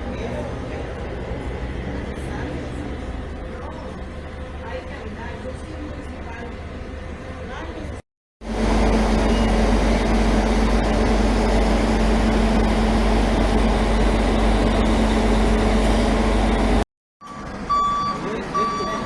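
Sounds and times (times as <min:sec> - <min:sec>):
large engine running: 0:00.0 - 0:19.0.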